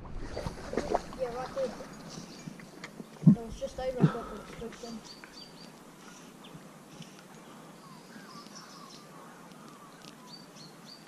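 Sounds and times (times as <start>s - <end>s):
outdoor background hiss: 0.0s - 11.0s
small birds chirping: 1.2s - 11.0s.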